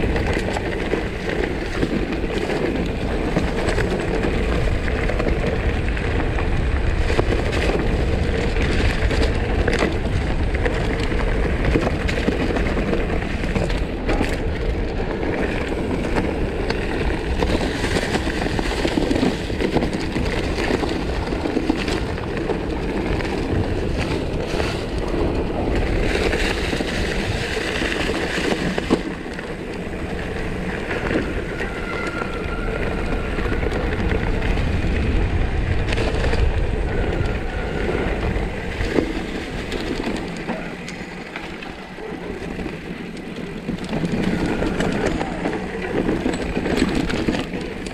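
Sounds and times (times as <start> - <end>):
bike clicks and rattles: 0.0 - 47.9
bike tyre rumble on dirt: 0.0 - 47.9
wind noise on microphone: 0.0 - 47.9.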